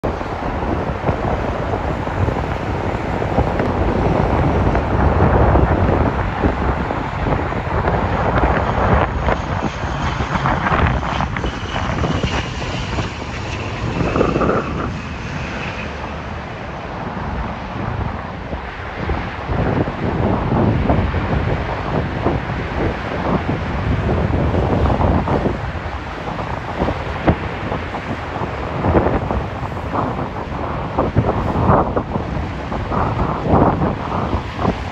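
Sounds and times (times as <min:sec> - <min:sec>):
turboprop aircraft engines: 0:00.0 - 0:34.9
wind buffeting microphone: 0:00.0 - 0:34.9.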